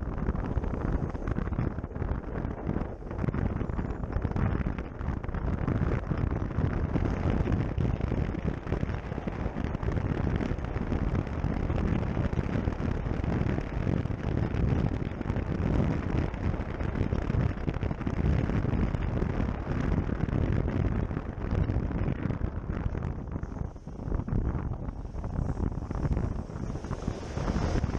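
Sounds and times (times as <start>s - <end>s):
wind rush on microphone: 0.0s - 27.9s.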